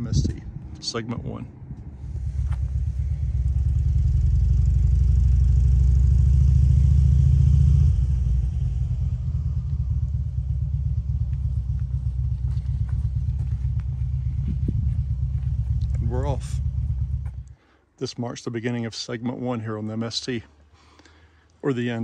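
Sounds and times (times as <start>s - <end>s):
vehicle engine rumbling: 0.0s - 17.8s.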